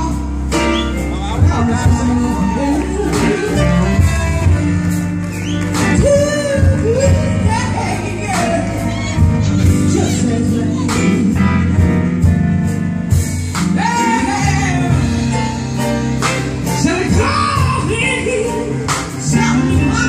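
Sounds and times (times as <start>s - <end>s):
woman singing lead: 0.0s - 12.3s, 13.6s - 15.7s, 16.6s - 20.0s
live band playing: 0.0s - 20.0s.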